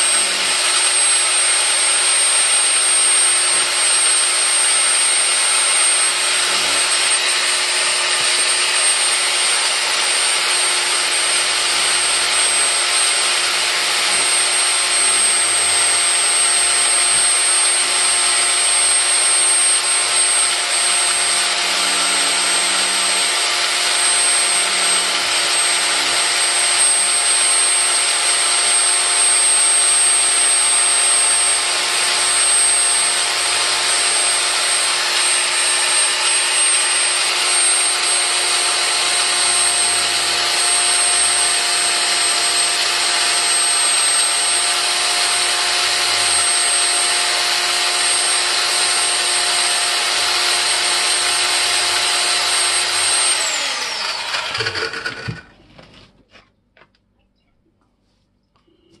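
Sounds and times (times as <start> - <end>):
electric drill motor whine: 0.0 - 55.5
drill bit grinding plaster: 0.0 - 55.6.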